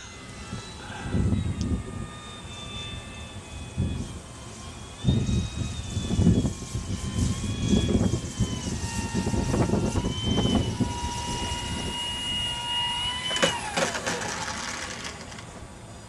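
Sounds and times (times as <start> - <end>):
wind rumble on microphone: 0.0 - 13.7
electric propeller whining: 0.0 - 16.0.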